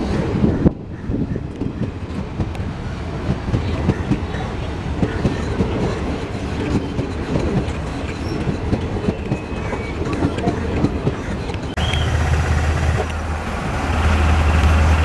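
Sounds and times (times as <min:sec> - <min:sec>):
train wheels rumbling on rails: 0:00.0 - 0:15.0
wheels clickety-clack on rail joints: 0:00.0 - 0:15.0.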